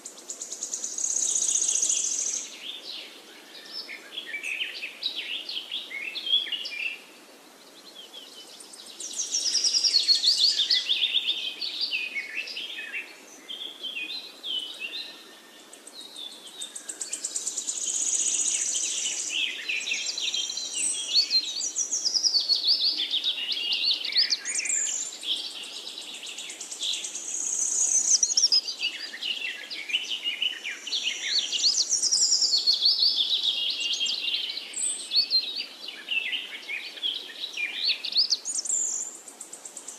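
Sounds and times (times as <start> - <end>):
birds chirping and singing: 7.9 - 39.9.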